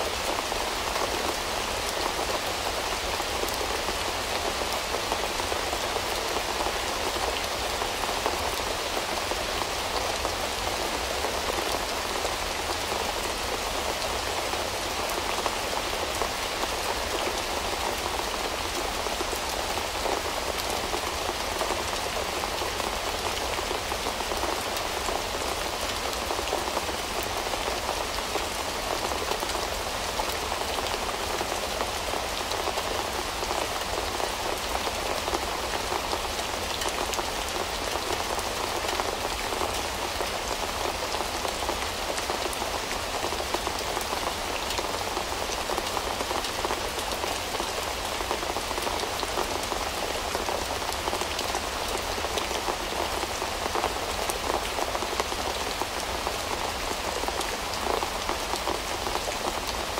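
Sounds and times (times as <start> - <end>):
rain falling on a window: 0.0 - 59.9.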